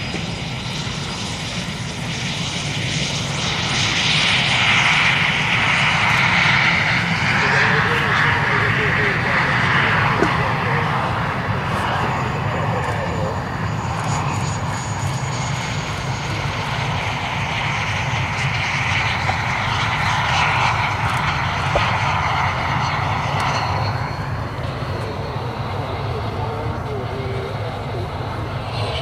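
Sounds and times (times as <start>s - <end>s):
jet engine rushing noise: 0.0s - 29.0s.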